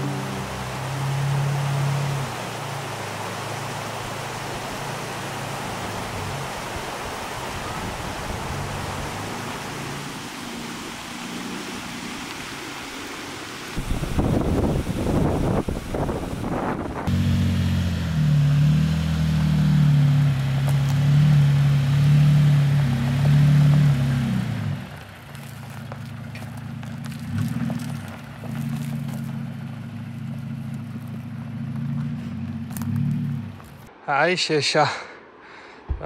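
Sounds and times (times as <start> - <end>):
vehicle engine running: 0.0 - 12.2, 13.8 - 33.9.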